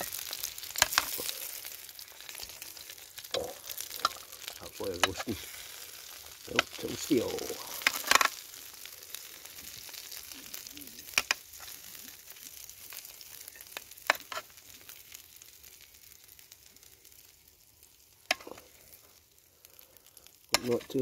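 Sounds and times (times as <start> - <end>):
chicken sizzling on a grill: 0.0 - 21.0.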